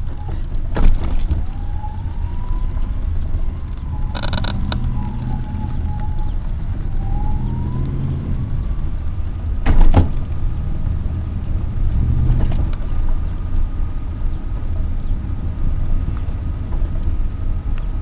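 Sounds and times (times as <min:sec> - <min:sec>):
low rumble of wheels: 0:00.0 - 0:18.0.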